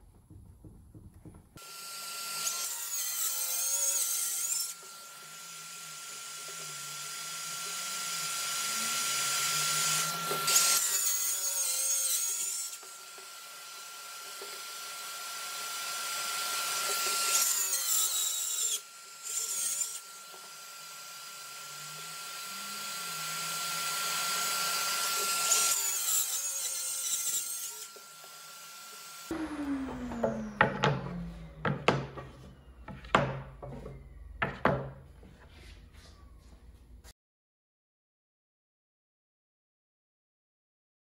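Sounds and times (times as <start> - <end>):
circular saw cutting plywood: 1.6 - 35.1.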